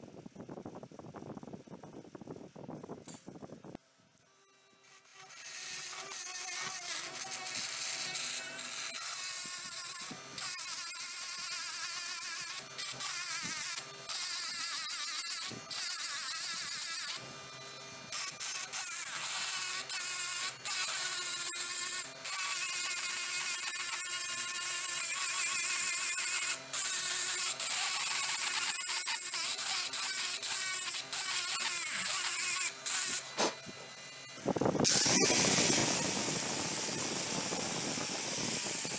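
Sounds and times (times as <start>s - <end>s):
rotary tool engraving metal: 4.3s - 38.9s.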